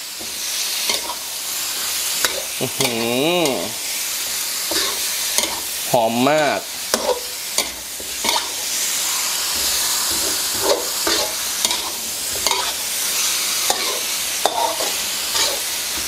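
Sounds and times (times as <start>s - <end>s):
chicken sizzling in hot oil: 0.0s - 16.0s
metal spatula scraping a wok: 0.2s - 3.0s, 4.7s - 5.7s, 6.9s - 16.0s.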